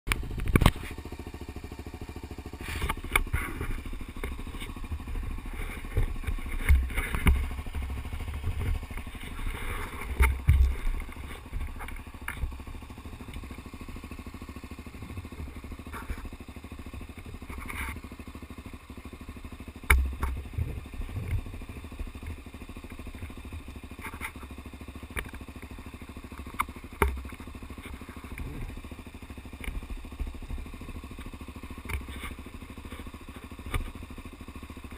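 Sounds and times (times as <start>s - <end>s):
motorcycle engines running: 0.1s - 34.9s.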